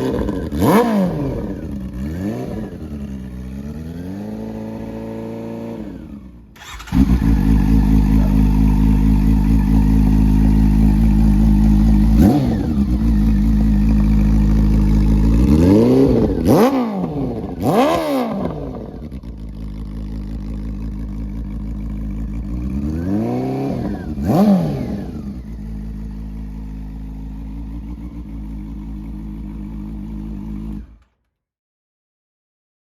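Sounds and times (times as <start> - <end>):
motorcycle engine idling: 0.0 - 31.1
motorcycle throttle blips: 0.0 - 31.1.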